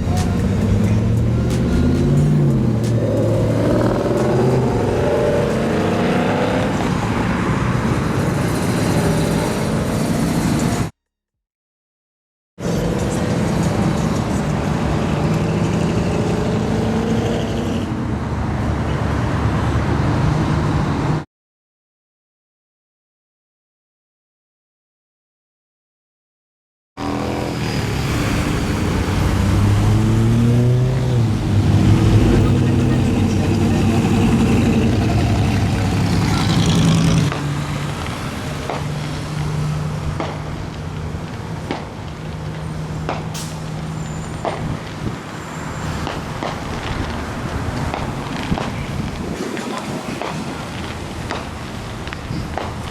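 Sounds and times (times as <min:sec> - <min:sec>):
car engines in traffic: 0:00.0 - 0:11.0, 0:12.6 - 0:21.2, 0:27.0 - 0:52.9
road noise: 0:00.0 - 0:11.0, 0:12.6 - 0:21.3, 0:27.0 - 0:52.9.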